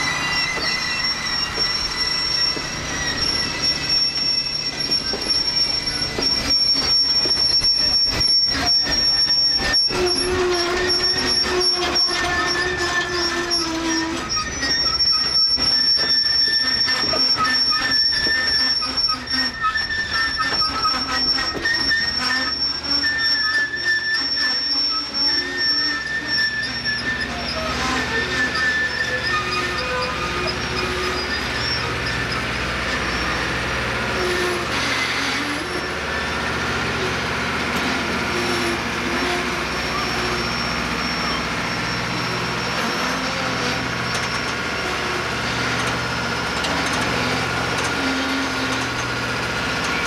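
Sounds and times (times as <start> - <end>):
low train rumble: 0.0 - 50.0
train wheels squealing on rails: 0.0 - 50.0.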